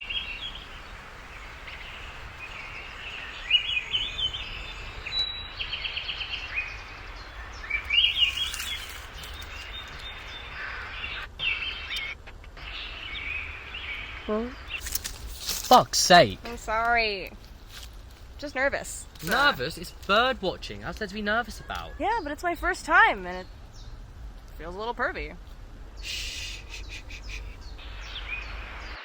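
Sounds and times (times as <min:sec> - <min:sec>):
birds chirping and singing: 0:00.0 - 0:24.2, 0:25.9 - 0:29.0
steady outdoor hiss: 0:00.0 - 0:29.0.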